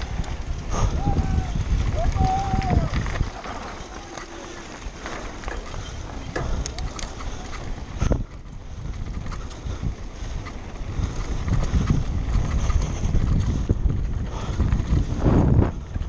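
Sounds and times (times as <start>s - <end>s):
knocks and rattles over rough ground: 0.0s - 16.0s
wind buffeting microphone: 0.0s - 16.0s.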